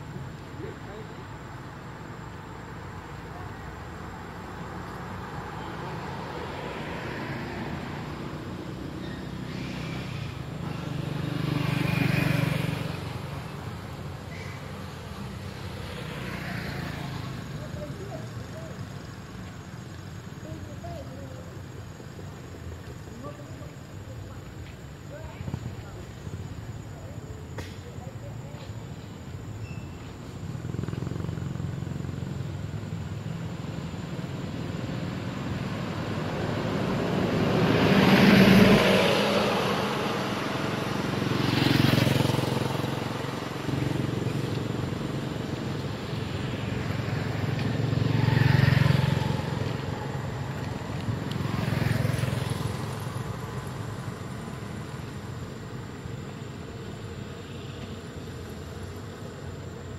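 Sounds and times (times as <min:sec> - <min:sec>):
vehicles passing on road: 0:00.0 - 0:59.9.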